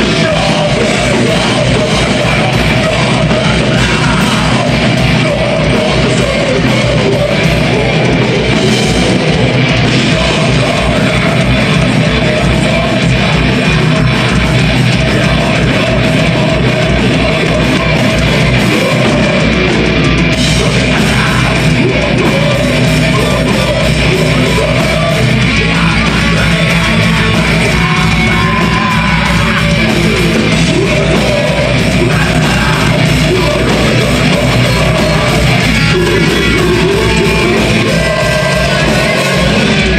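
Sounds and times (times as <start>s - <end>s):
fast drumming: 0.0s - 39.9s
harsh screamed vocals: 0.0s - 39.9s
loud distorted guitars: 0.0s - 39.9s.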